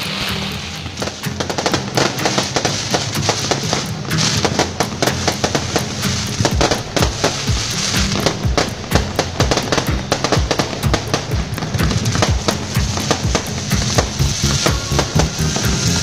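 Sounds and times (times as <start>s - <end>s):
background music with low notes: 0.0s - 16.0s
fireworks and firecrackers popping: 0.0s - 16.0s.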